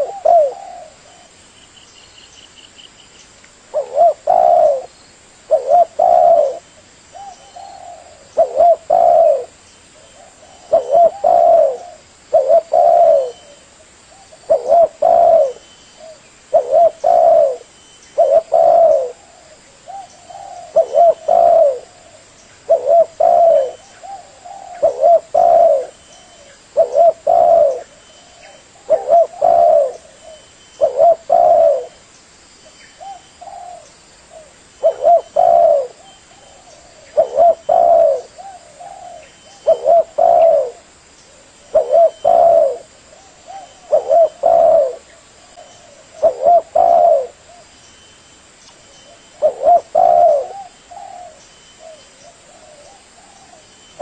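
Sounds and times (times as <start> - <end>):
dove cooing: 0.0 - 1.4, 3.7 - 4.9, 5.5 - 32.0, 33.0 - 47.7, 49.1 - 53.7.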